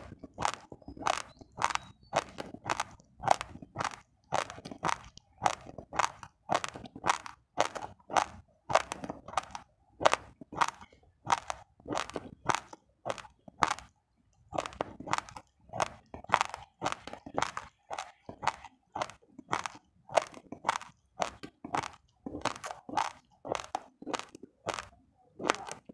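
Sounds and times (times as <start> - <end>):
chewing raw rice crunches: 0.0 - 25.9.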